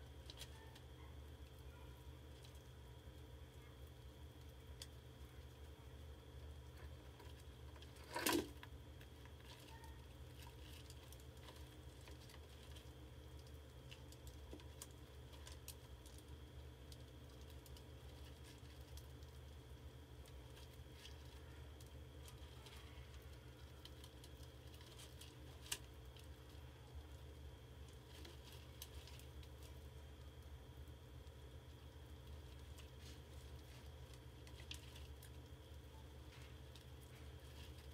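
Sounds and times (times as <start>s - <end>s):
steady low hum: 0.0s - 37.9s
rats scratching on plastic: 6.5s - 37.9s.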